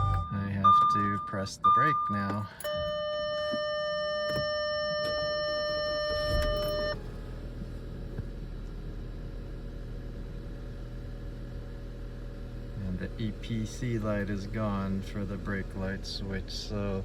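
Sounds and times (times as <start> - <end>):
car engine cranking and idling: 0.0 - 17.0.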